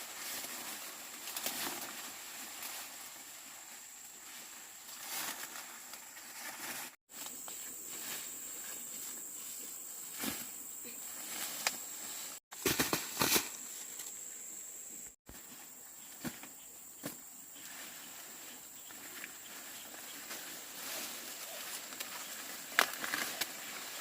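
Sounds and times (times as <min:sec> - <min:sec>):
rustles: 0:00.0 - 0:24.0.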